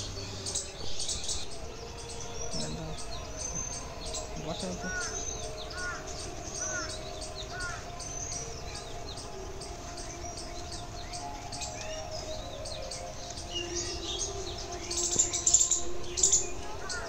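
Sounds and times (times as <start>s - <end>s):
faint low drone: 0.0s - 17.0s
small birds chirping: 0.0s - 17.0s.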